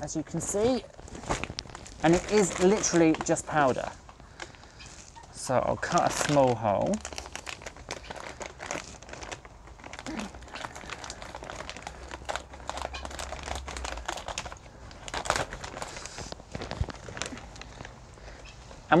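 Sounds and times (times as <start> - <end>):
plastic bag crinkling: 0.2 - 18.5.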